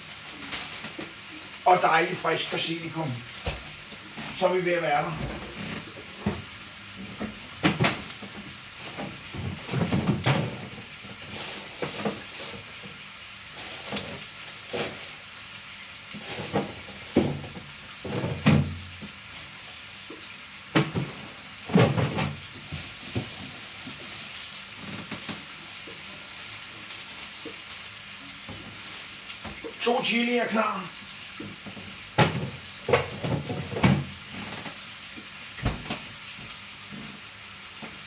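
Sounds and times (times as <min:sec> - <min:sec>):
faint sizzle from pot: 0:00.0 - 0:38.0.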